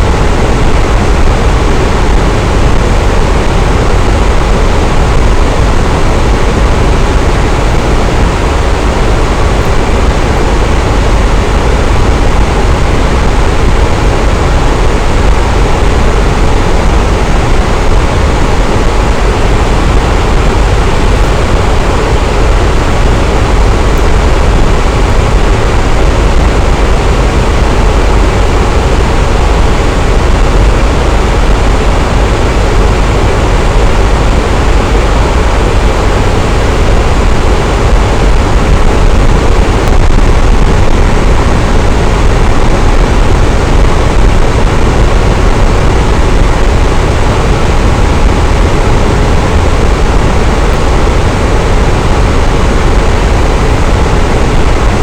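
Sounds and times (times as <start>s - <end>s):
electric fan whooshing: 0.0s - 55.0s.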